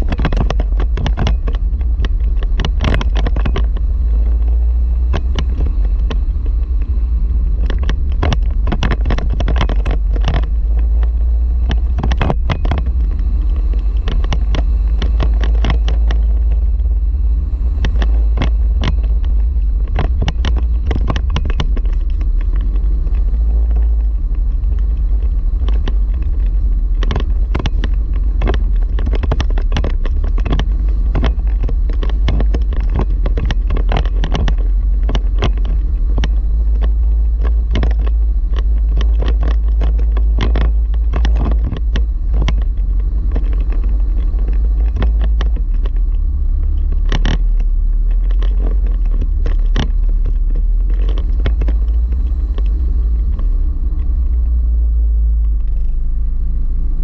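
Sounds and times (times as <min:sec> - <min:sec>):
off-road vehicle rumbling: 0:00.0 - 0:57.0
vehicle knocks and rattles: 0:00.0 - 0:57.0.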